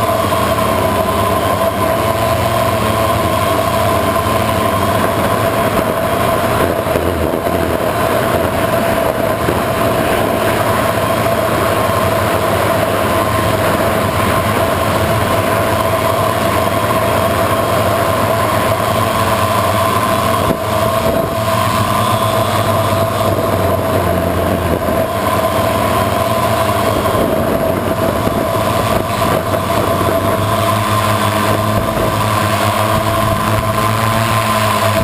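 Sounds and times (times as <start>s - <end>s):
drone motors whining: 0.0s - 35.0s.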